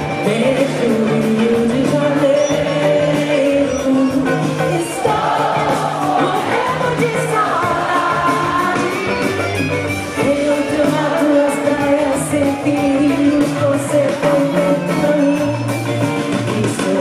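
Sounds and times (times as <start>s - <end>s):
samba band playing: 0.0s - 17.0s
woman singing into a microphone: 0.2s - 9.5s, 10.2s - 17.0s.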